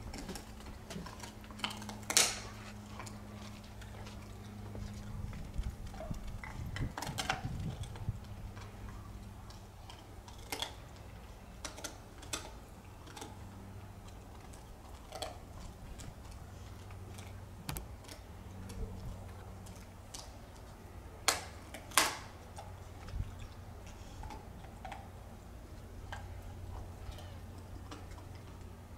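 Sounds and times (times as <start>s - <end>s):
dog gnawing on a bone: 0.0s - 28.9s
steady low hum: 0.0s - 28.9s.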